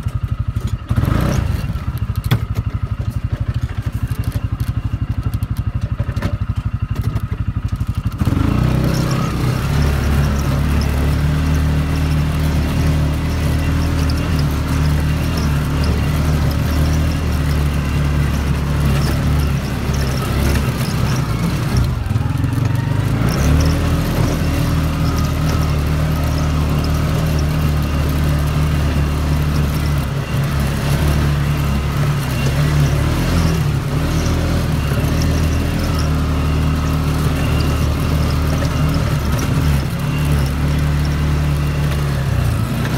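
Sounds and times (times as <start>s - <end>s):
atv engine idling and riding: 0.0s - 42.9s.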